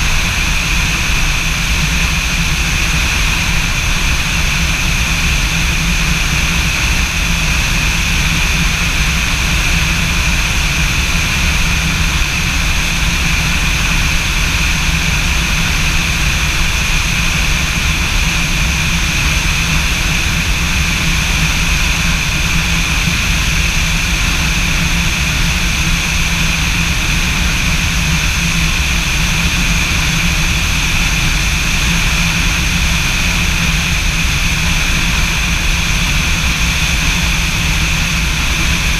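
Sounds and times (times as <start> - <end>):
light aircraft engine drone: 0.0 - 38.9.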